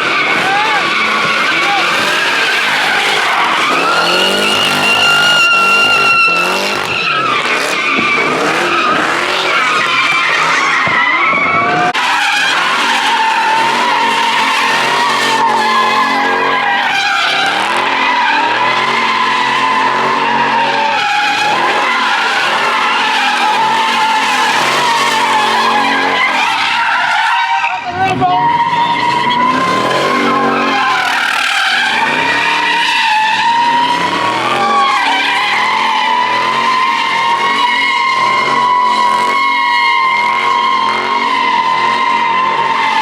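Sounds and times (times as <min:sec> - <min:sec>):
car engine revving: 0:00.0 - 0:43.0
car tyres squealing: 0:00.0 - 0:43.0.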